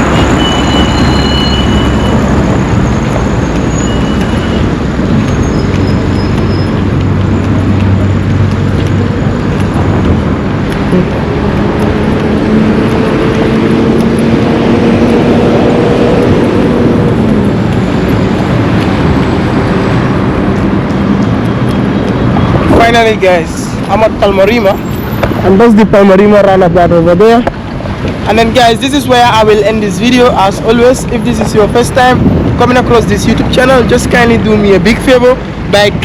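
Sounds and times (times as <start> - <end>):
highway traffic passing: 0.0 - 36.0.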